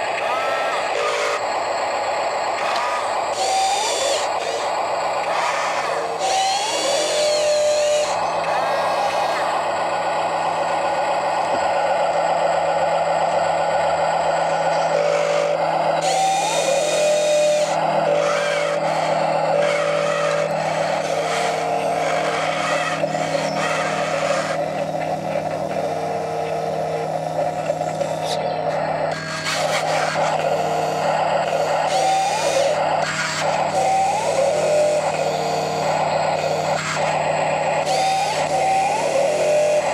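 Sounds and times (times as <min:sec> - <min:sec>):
electric motors whining: 0:00.0 - 0:39.9
steady low hum: 0:00.0 - 0:39.9.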